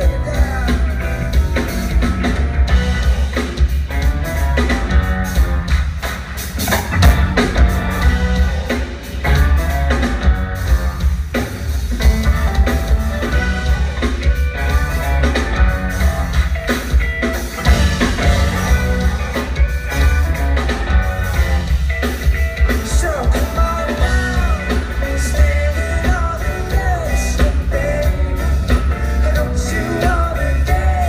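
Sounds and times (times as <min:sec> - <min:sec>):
drum kit hitting steadily: 0:00.0 - 0:31.0
electric guitars: 0:00.0 - 0:31.0
keyboards: 0:00.0 - 0:31.0.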